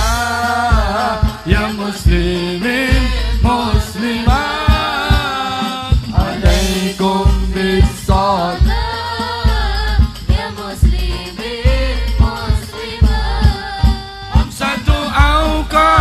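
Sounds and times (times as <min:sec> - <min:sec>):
band playing: 0:00.0 - 0:16.0
deep drum beats: 0:00.0 - 0:16.0
person singing devotional song: 0:00.0 - 0:16.0.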